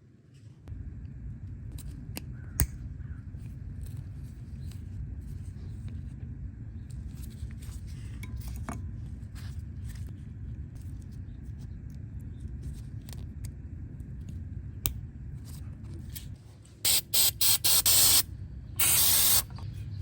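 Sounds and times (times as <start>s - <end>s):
steady low rumble: 0.7s - 20.0s.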